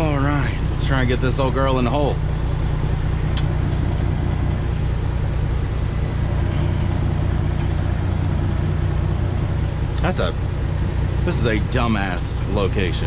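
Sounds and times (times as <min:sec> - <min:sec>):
truck engine at low revs: 0:00.0 - 0:13.0.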